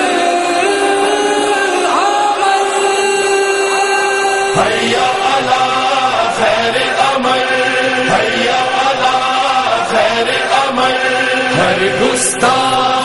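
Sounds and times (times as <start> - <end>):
voices chanting in chorus: 0.0 - 13.0.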